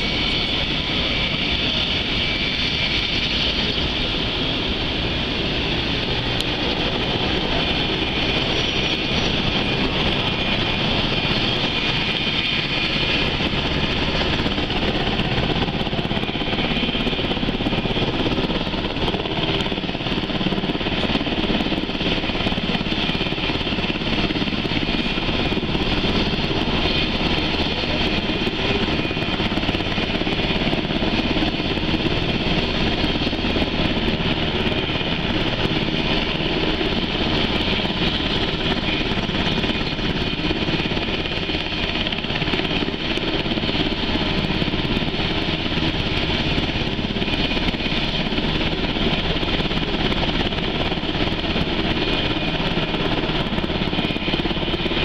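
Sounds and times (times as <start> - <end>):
helicopter engine whine: 0.0 - 55.0.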